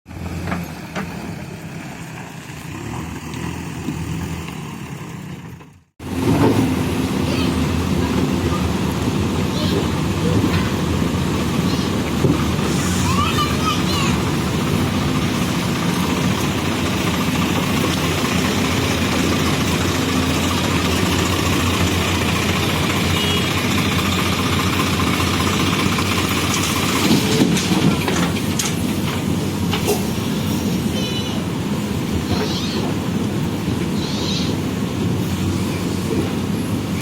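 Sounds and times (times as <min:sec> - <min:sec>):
diesel engine running: 0:00.1 - 0:37.0.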